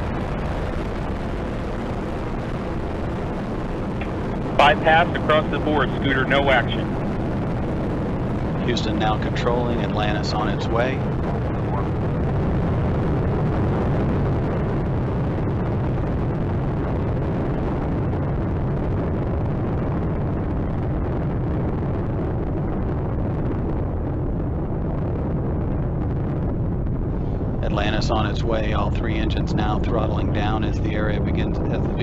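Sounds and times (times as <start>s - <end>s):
rocket engines roaring: 0.0s - 32.0s.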